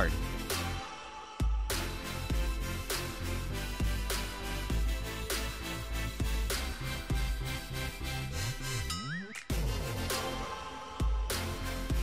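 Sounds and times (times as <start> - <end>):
electronic beat music: 0.0 - 12.0.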